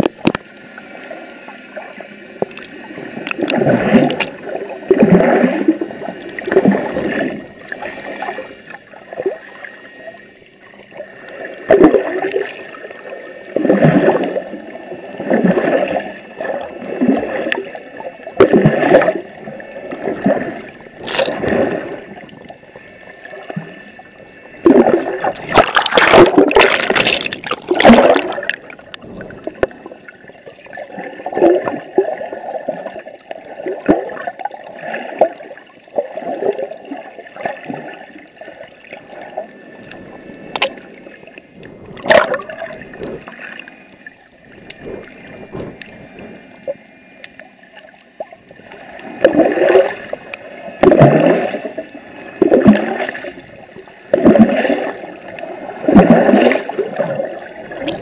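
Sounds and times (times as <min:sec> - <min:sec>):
water gurgling underwater: 0:00.0 - 0:58.0.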